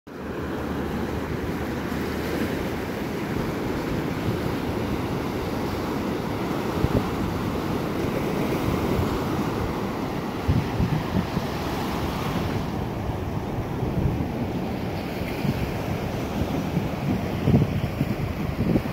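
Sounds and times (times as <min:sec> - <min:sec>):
low wind buffets: 0:00.2 - 0:18.9
surf breaking on beach: 0:00.2 - 0:18.9
wind rumbling on microphone: 0:01.0 - 0:18.9.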